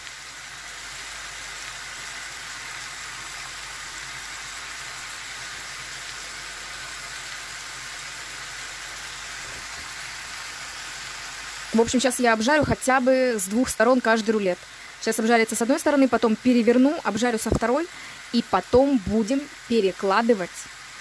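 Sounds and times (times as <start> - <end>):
meat and onions sizzling in oil: 0.0 - 21.0.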